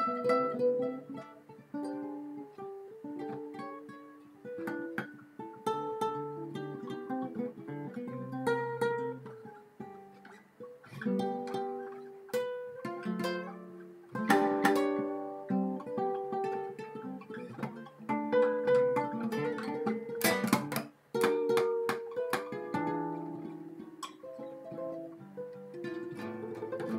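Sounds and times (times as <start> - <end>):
acoustic guitar: 0.0 - 26.9.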